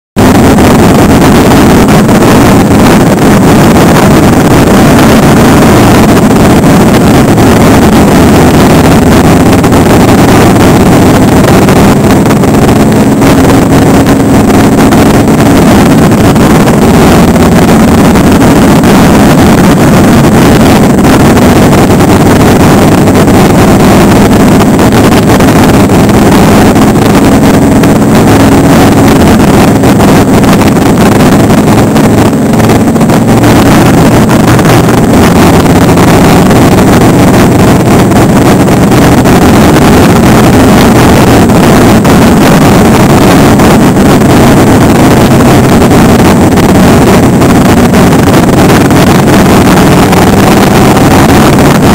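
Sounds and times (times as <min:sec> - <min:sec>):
motorcycle engine cruising: 0:00.2 - 0:51.9.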